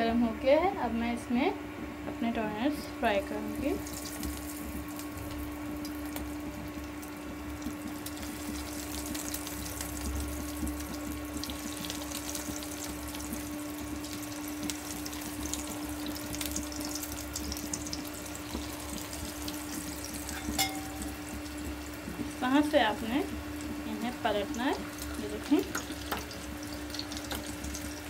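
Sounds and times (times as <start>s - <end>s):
deep-frying sizzle: 2.8s - 28.0s.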